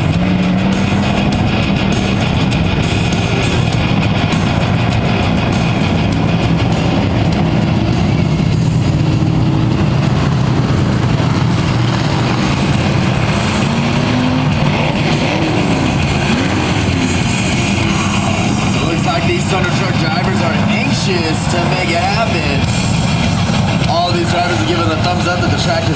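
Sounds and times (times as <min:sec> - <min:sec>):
race truck engines passing: 0:00.0 - 0:25.9.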